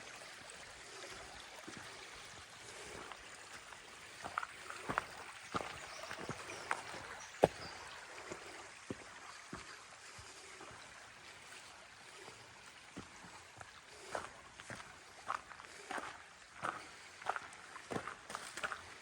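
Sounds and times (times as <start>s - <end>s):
faint stream running: 0.0s - 19.0s.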